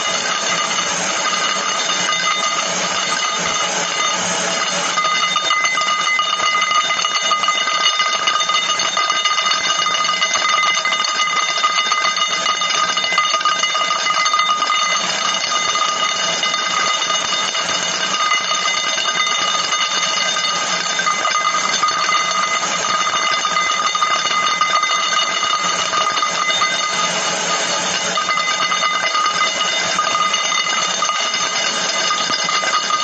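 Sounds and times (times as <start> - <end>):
high-pitched ringing tones: 0.0 - 33.0
rapid continuous clicking: 0.0 - 33.0.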